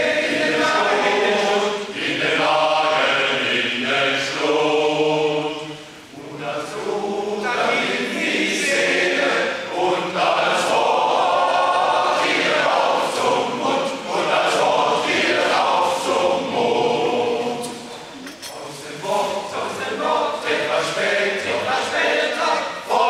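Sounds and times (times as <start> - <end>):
choir singing unaccompanied: 0.0 - 23.0.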